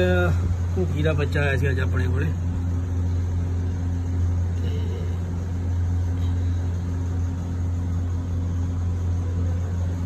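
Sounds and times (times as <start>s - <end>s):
steady low electrical hum: 0.0s - 10.0s.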